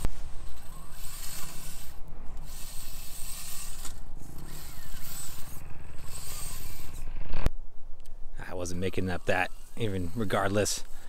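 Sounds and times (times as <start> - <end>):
small electric motor whining: 0.0 - 7.5, 8.5 - 11.0.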